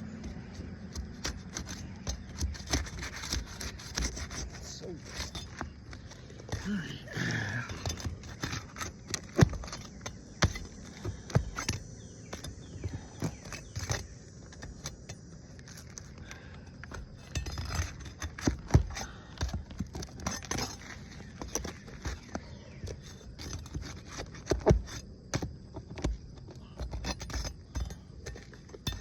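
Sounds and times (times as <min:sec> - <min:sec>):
metal tool prying roof shingles: 0:00.1 - 0:29.0.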